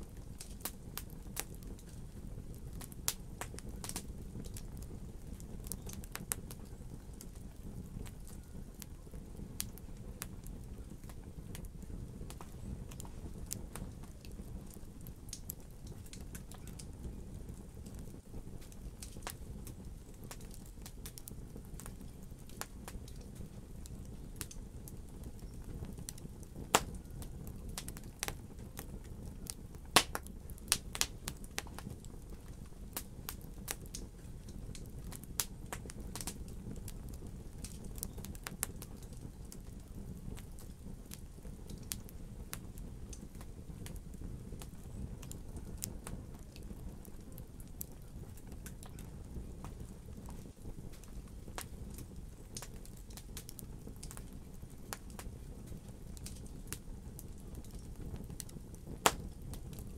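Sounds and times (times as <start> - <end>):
fire crackling and popping: 0.0 - 59.9
low rumble of flame: 0.0 - 59.9.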